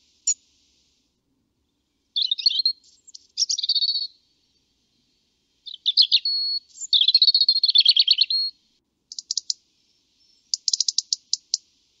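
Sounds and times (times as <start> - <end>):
robin singing: 1.6 - 11.8.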